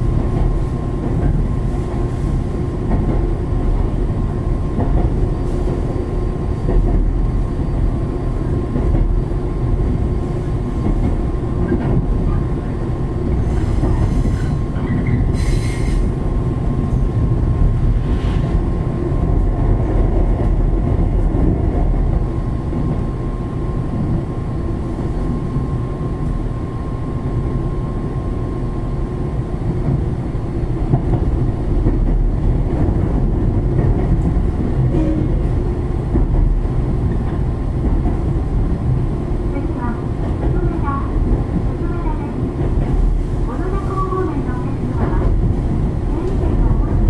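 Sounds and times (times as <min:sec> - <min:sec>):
train wheels rumbling: 0:00.0 - 0:47.0.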